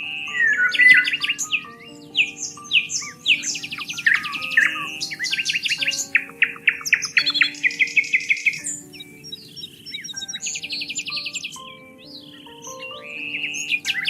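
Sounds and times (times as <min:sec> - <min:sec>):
soft background music: 0:00.0 - 0:14.0
songbirds chirping and trilling: 0:00.0 - 0:14.0.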